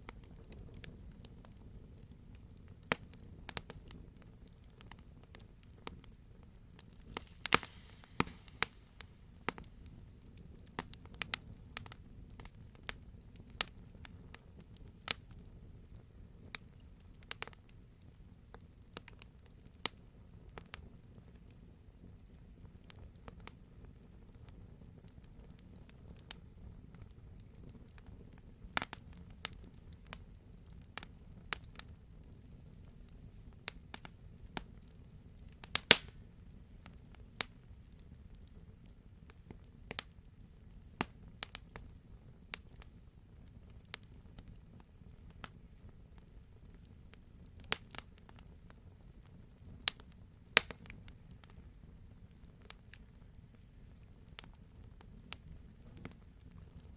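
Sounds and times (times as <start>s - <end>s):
campfire crackling: 0.0s - 56.9s
low rumble of flames: 0.0s - 56.9s.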